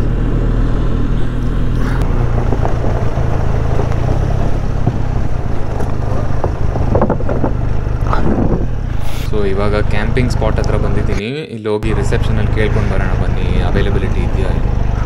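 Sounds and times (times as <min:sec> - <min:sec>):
motorcycle engine running: 0:00.0 - 0:11.2, 0:11.8 - 0:15.0.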